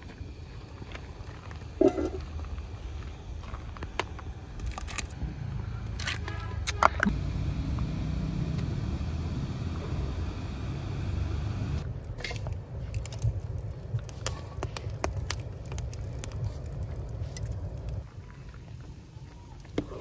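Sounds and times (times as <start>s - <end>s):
broth boiling in a pot: 0.0s - 5.1s, 8.8s - 20.0s
wood fire crackling: 0.0s - 5.2s, 5.9s - 20.0s.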